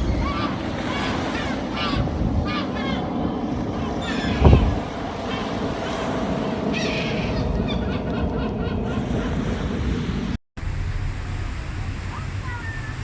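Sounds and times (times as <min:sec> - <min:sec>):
gulls calling: 0:00.0 - 0:10.3, 0:11.5 - 0:13.0
water rumbling: 0:00.0 - 0:13.0
wind: 0:00.0 - 0:13.0.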